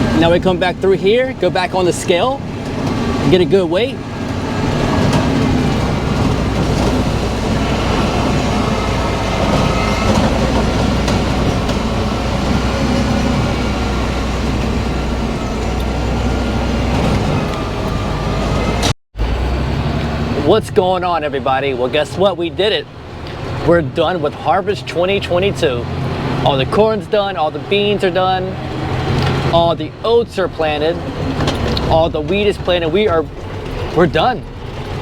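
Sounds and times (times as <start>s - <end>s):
dump truck engine rattling: 0.0s - 35.0s.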